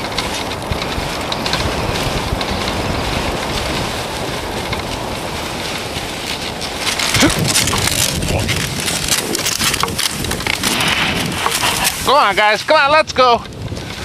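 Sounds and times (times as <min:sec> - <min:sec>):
sled runners sliding on snow: 0:00.0 - 0:14.0.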